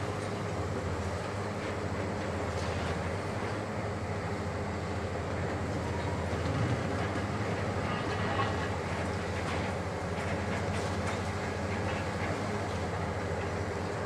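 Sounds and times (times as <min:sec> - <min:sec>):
excavator diesel engine and hydraulics: 0:00.0 - 0:14.0.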